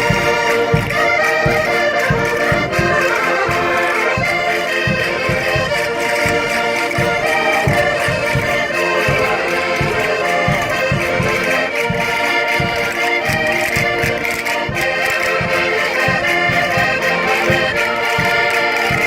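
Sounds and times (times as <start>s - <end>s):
button accordions playing folk tune: 0.0s - 19.0s.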